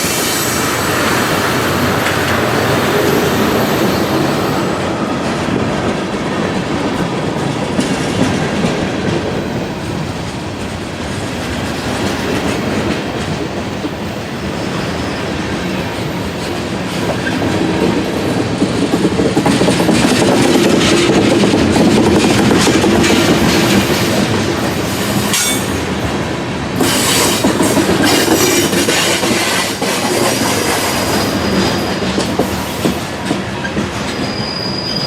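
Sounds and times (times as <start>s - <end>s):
freight train wheels clattering: 0.0s - 35.0s.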